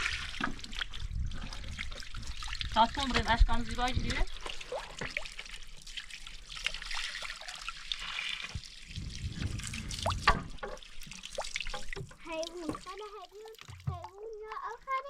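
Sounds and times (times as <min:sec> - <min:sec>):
small water splashes: 0:00.0 - 0:15.0
spring water trickling: 0:00.0 - 0:15.0.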